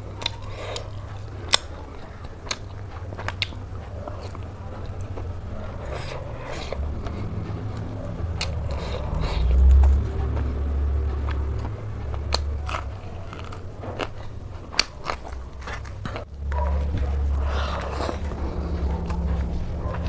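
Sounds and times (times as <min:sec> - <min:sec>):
person chewing meat: 0:00.0 - 0:20.0
low rumble: 0:00.1 - 0:20.0.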